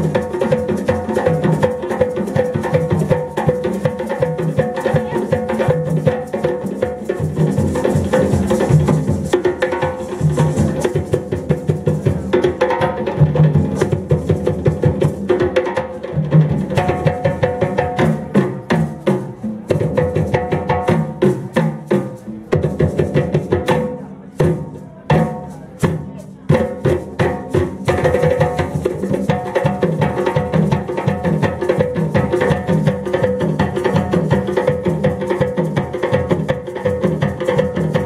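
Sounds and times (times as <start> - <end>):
hand drums ensemble: 0.0 - 38.0.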